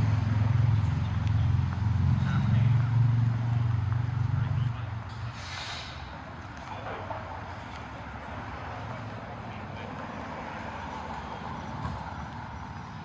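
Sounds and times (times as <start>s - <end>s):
city street noise: 0.0s - 13.0s
low traffic rumble: 0.0s - 13.0s.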